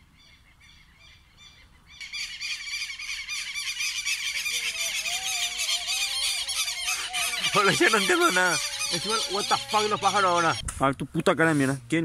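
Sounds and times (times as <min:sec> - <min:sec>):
faint bird chirps: 0:00.0 - 0:10.6
birds chattering chorus: 0:00.0 - 0:11.4.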